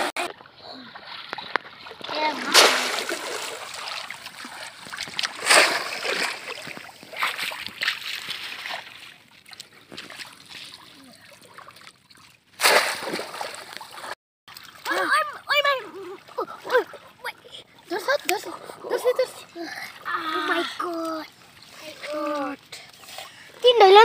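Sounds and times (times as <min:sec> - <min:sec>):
shallow water splashing: 0:00.3 - 0:24.0.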